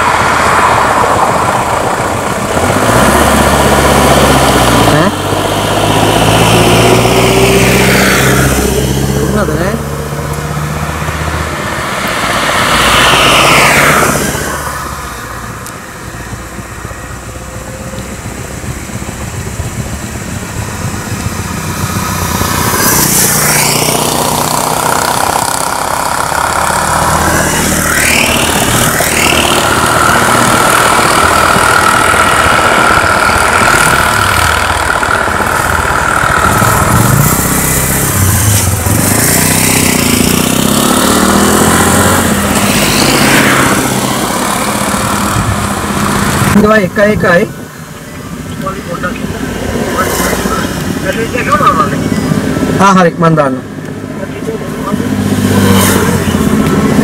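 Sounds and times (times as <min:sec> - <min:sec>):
vehicles driving past: 0:00.0 - 0:57.0.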